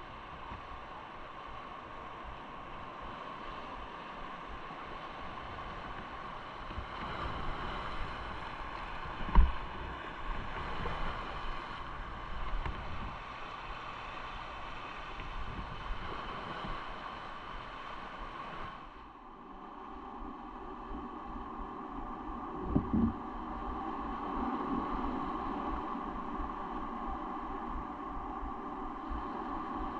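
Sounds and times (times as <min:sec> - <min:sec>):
wind on microphone: 0:03.0 - 0:13.8, 0:14.4 - 0:18.9, 0:19.5 - 0:29.9.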